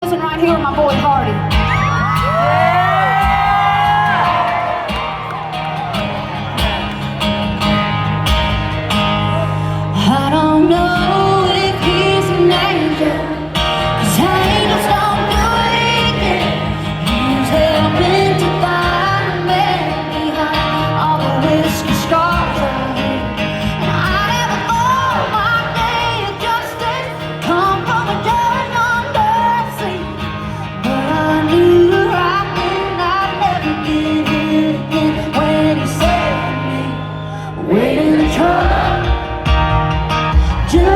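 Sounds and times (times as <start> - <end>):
woman singing country song: 0.0 - 5.2, 8.9 - 40.9
band with guitar: 0.0 - 40.9.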